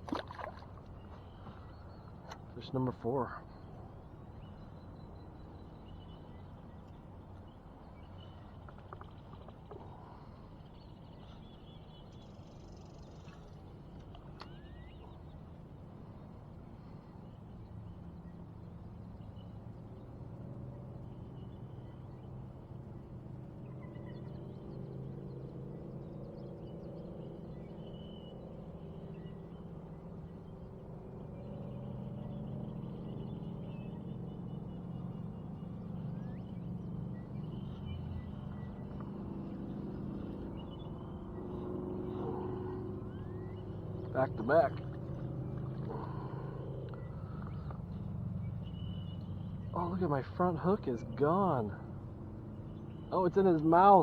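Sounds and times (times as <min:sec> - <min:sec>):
birds chirping: 0:00.0 - 0:19.6, 0:26.3 - 0:54.0
low engine hum: 0:00.0 - 0:54.0.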